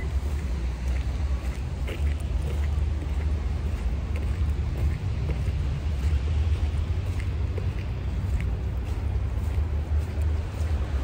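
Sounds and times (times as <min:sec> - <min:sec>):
deep street rumble: 0:00.0 - 0:11.0.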